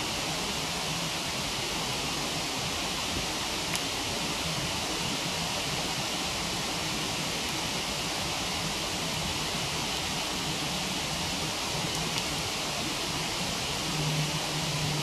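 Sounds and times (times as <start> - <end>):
waterfall rushing: 0.0 - 15.0
wood fire crackle: 0.4 - 15.0.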